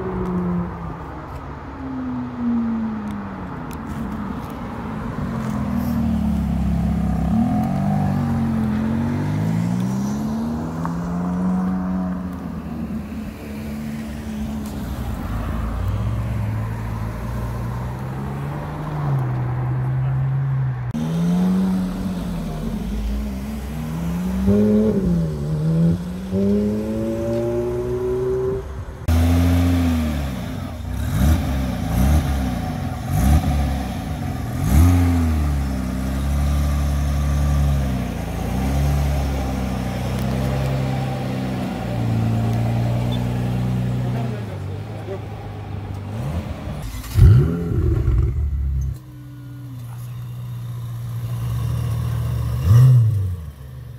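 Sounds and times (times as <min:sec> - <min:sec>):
sports car engine idling and revving: 0:00.0 - 0:53.9.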